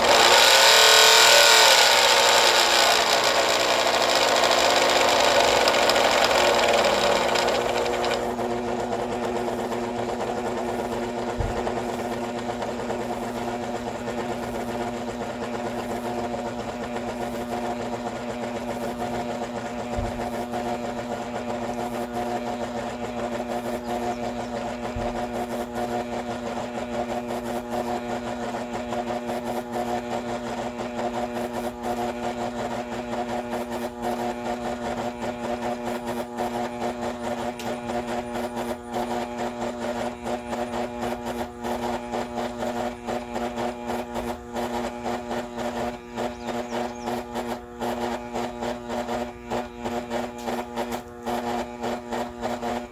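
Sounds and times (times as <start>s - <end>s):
blender motor whirring: 0.0s - 52.9s.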